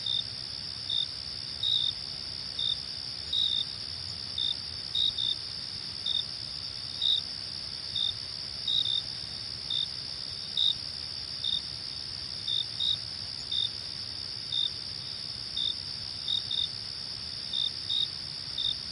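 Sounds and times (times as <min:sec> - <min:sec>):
cricket chirps: 0:00.0 - 0:18.9
crickets trilling: 0:00.0 - 0:18.9.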